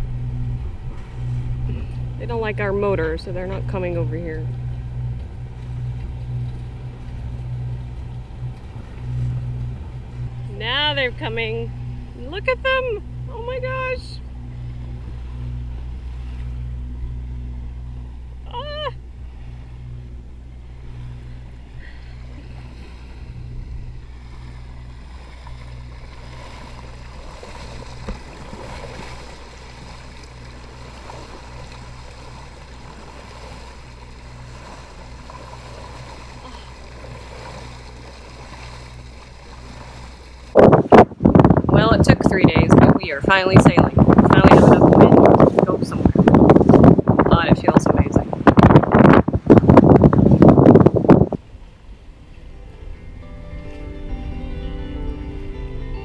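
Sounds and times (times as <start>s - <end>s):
boat motor humming: 0.0s - 56.0s
water rushing along hull: 0.0s - 56.0s.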